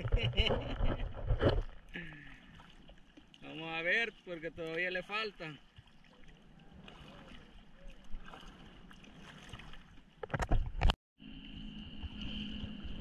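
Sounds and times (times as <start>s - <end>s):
water lapping against a surfboard: 0.0s - 10.9s.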